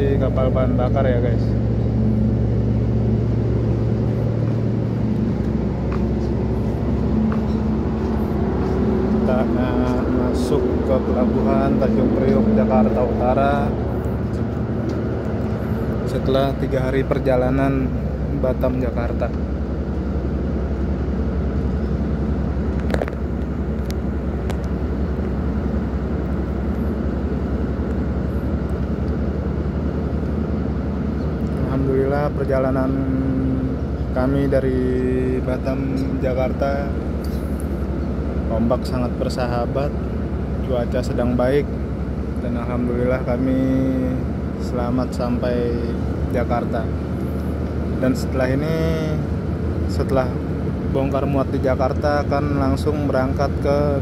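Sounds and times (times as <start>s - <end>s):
ship engines droning: 0.0s - 54.0s.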